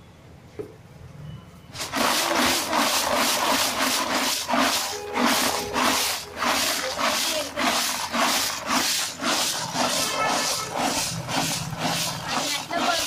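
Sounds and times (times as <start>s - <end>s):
chips rustling in plastic tub: 1.8s - 13.0s.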